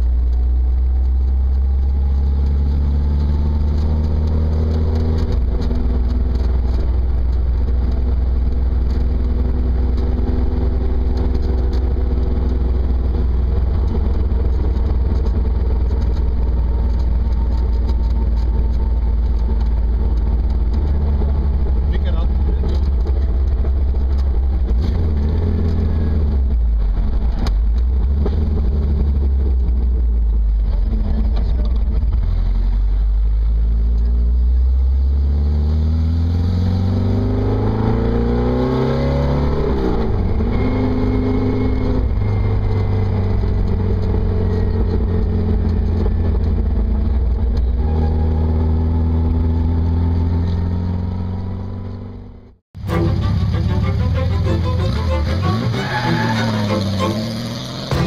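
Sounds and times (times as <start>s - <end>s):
gearbox whine: 0.0s - 34.9s, 36.8s - 58.0s
car engine driving: 0.0s - 58.0s.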